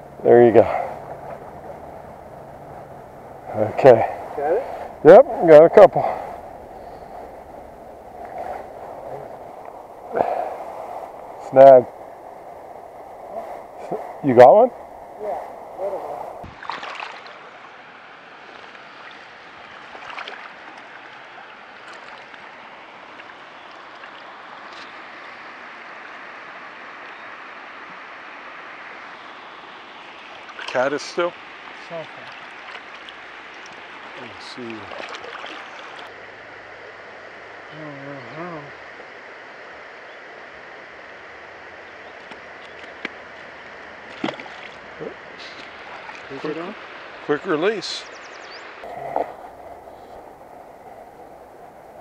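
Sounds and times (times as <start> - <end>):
flowing river water: 0.0 - 52.0.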